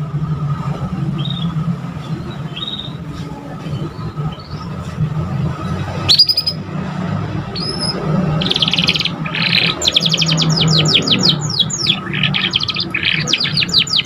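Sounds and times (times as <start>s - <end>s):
canary singing: 1.0s - 14.0s.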